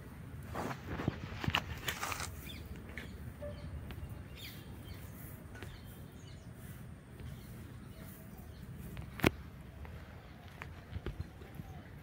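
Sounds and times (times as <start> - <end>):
low steady outdoor rumble: 0.0 - 12.0
birds chirping faintly: 2.2 - 12.0.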